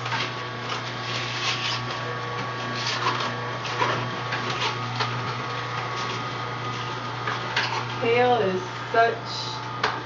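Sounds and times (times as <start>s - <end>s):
crunching and grinding greens: 0.0s - 8.2s
juicer motor humming: 0.0s - 10.0s.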